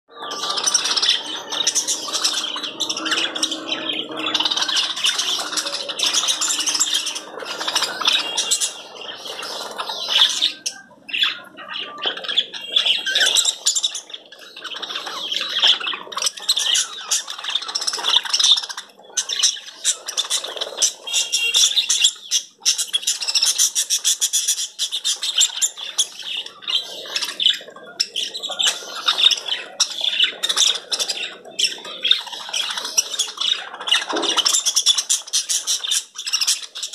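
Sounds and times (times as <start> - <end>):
small birds chirping and squawking: 0.0 - 36.9.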